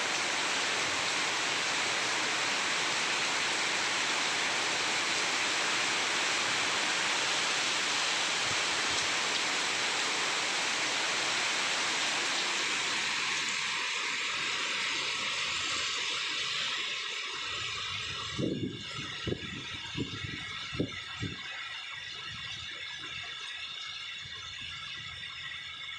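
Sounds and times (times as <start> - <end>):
heavy rain falling in wind: 0.0 - 25.7.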